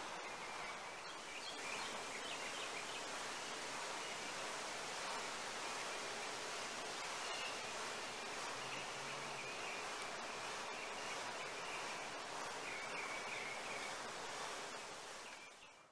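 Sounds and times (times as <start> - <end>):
rustling leaves: 0.0 - 15.9.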